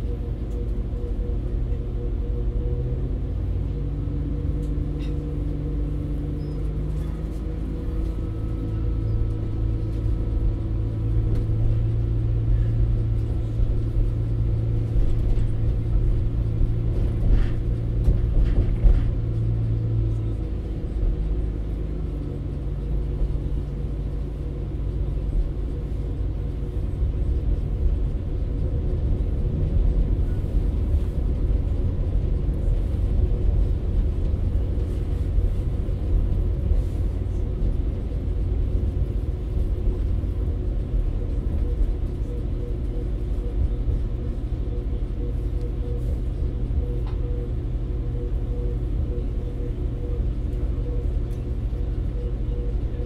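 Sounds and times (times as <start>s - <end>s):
train diesel engine rumble: 0.0s - 53.0s.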